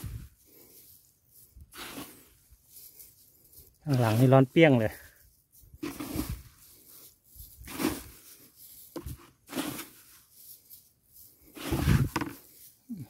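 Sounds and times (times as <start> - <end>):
rice husk rustling swishes: 0.0 - 13.0.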